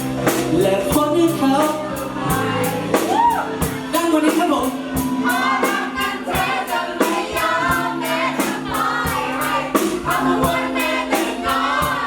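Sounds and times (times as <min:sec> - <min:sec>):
drum beat: 0:00.0 - 0:12.0
live pop band: 0:00.0 - 0:12.0
voices singing together: 0:00.2 - 0:12.0.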